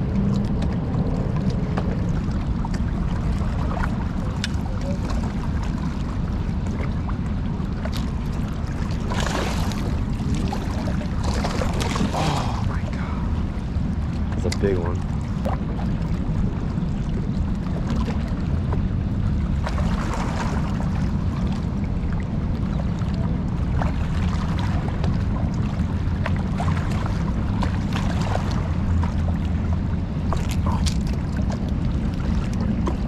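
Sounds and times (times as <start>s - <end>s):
river water churning below dam: 0.0s - 33.0s.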